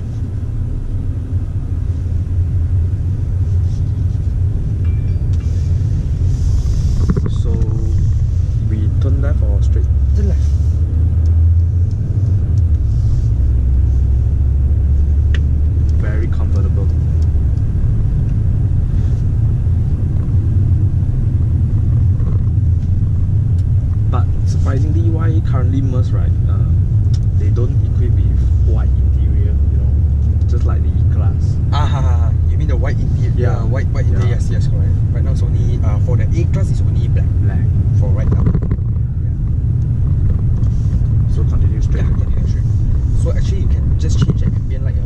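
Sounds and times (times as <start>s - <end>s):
car cabin road noise: 0.0s - 45.0s.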